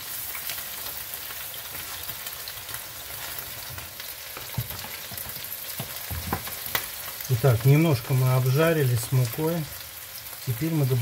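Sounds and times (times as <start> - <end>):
onion sizzling in a frying pan: 0.0 - 11.0.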